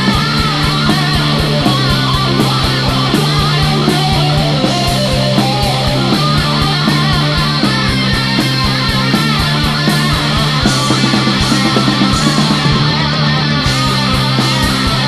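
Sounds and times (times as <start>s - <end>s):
bass guitar: 0.0s - 15.0s
electric guitar: 0.0s - 15.0s
rock drums with cymbals: 0.0s - 15.0s.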